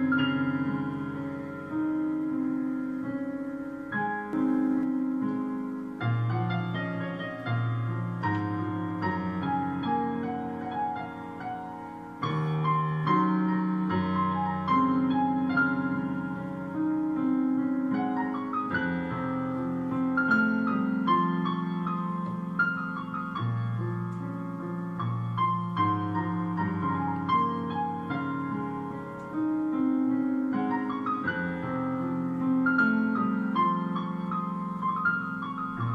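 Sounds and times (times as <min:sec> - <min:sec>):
piano music: 0:00.0 - 0:35.9.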